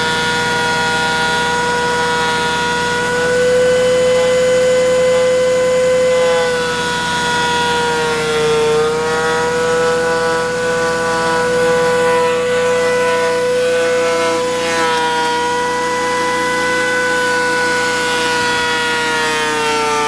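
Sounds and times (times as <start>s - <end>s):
thickness planer whining: 0.0s - 20.0s.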